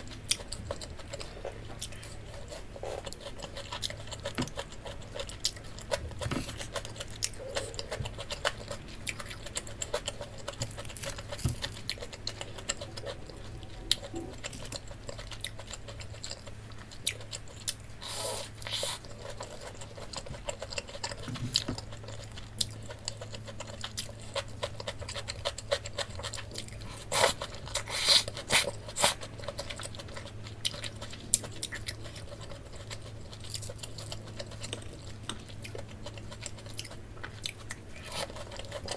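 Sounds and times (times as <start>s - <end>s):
crunchy chewing: 0.0s - 38.9s
steady low hum: 0.0s - 38.9s.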